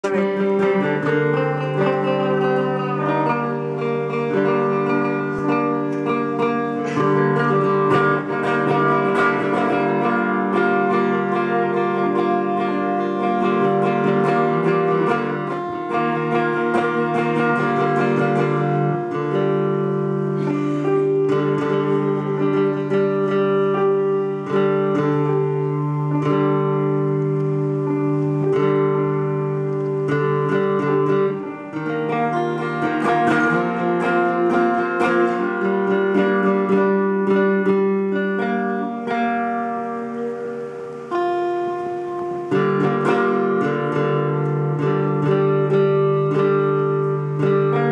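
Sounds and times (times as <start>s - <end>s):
plucked string instrument: 0.0s - 47.9s.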